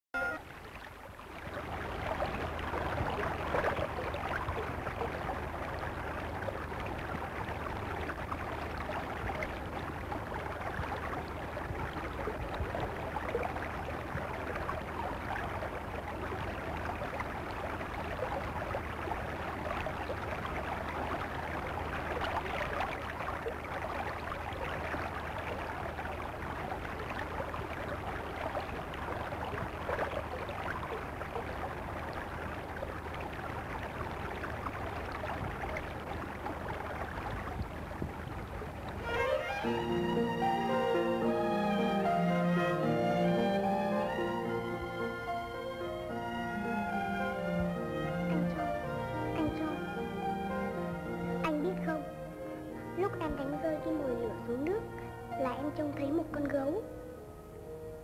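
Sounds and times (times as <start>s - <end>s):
running water rushing: 0.2s - 58.0s
low constant hum: 0.3s - 58.0s.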